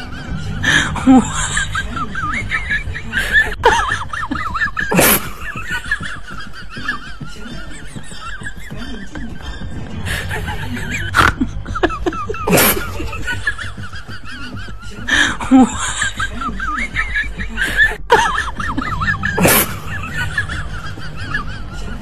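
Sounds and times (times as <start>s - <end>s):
background music: 0.0s - 22.0s
people laughing: 0.0s - 22.0s.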